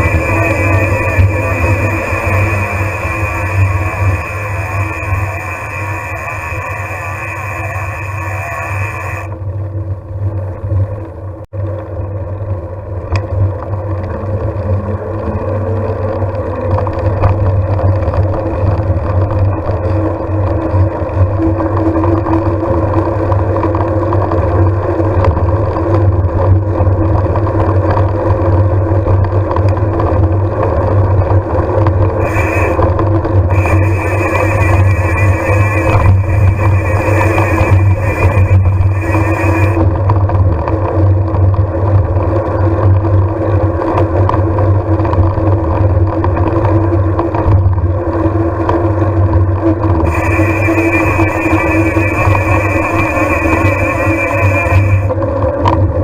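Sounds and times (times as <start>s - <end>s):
engine running with low hum: 0.0s - 56.0s.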